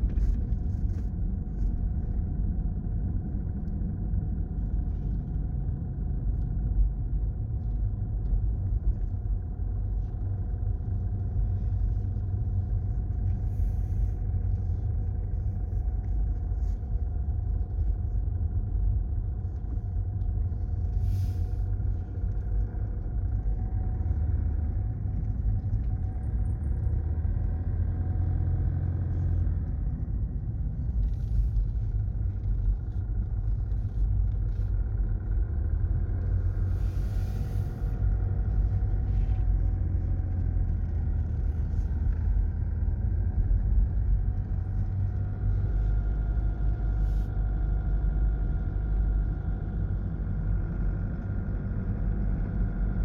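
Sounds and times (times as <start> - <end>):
engine and tyres rumbling: 0.0 - 53.0.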